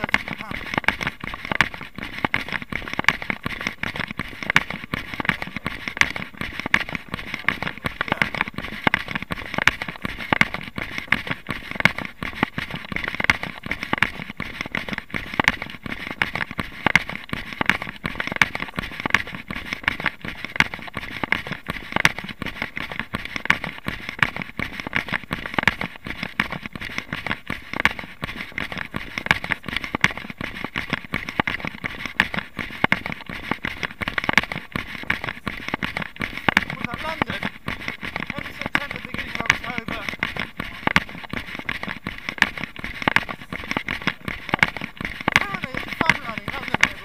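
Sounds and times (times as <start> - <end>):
body-worn camera jostling: 0.0 - 47.0
footfalls on gravel: 0.0 - 47.0.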